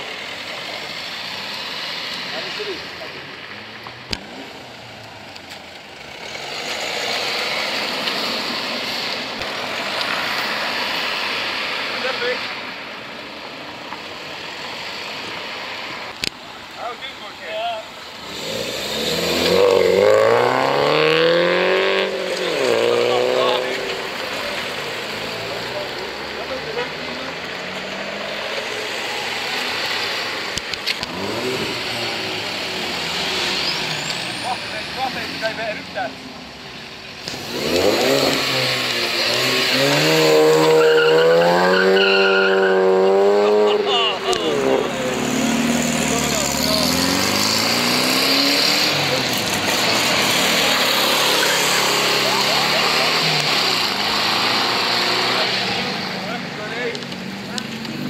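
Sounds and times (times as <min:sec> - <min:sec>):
car engine revving: 0:00.0 - 0:58.0
exhaust cracks: 0:01.6 - 0:12.6, 0:18.2 - 0:36.2, 0:37.1 - 0:58.0.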